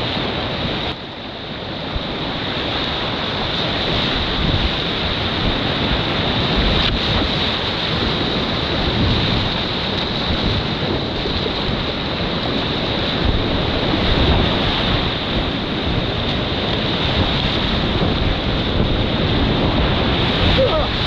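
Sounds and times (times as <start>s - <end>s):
whitewater rapids rushing: 0.0s - 21.0s.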